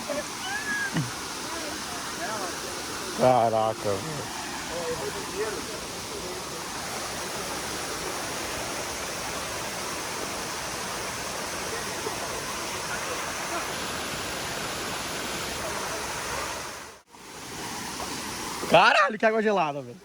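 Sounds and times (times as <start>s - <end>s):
water flowing: 0.0s - 20.0s.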